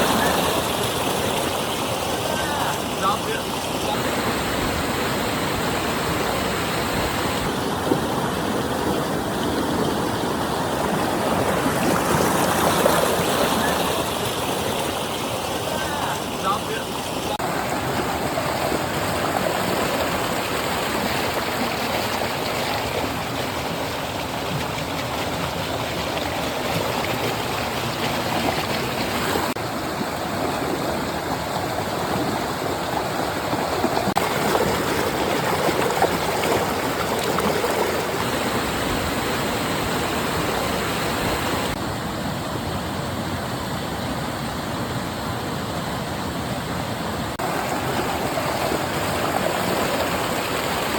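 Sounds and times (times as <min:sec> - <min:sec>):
flowing water: 0:00.0 - 0:50.9.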